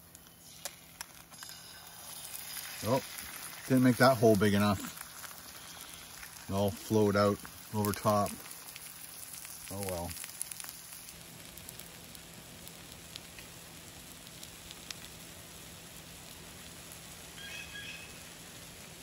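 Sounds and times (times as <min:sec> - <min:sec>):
eggs sizzling in butter: 0:00.0 - 0:19.0.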